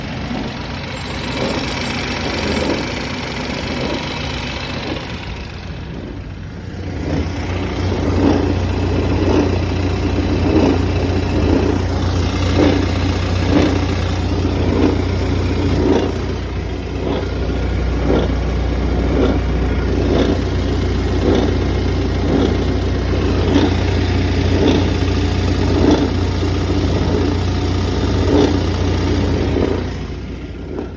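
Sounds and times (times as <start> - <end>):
car engine idling with rhythmic pulsing: 0.0 - 30.9
steady low hum: 0.0 - 30.9.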